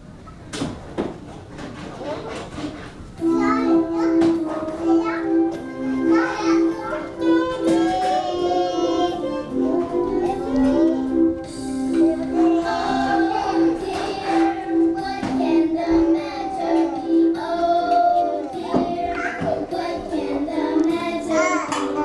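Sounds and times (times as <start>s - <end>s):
child singing: 3.2s - 11.3s, 11.9s - 22.0s
instrumental music: 3.2s - 22.0s.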